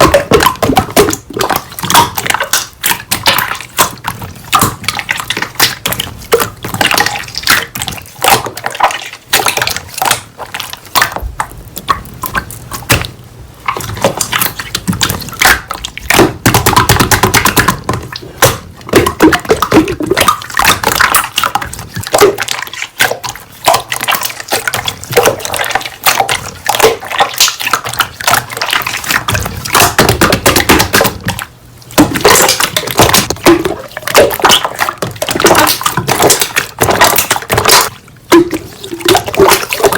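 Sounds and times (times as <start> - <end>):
slime squelching by hand: 0.0 - 39.9.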